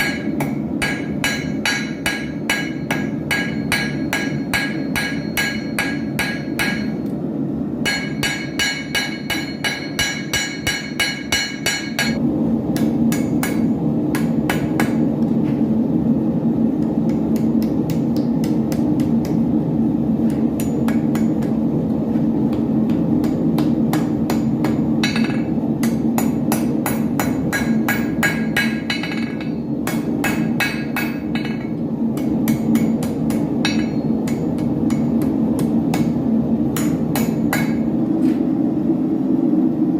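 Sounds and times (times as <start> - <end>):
hammer striking iron on anvil: 0.0 - 7.2, 7.8 - 12.2, 12.8 - 15.1, 16.8 - 19.5, 20.2 - 21.6, 22.5 - 37.9
steady low hum: 0.0 - 39.9.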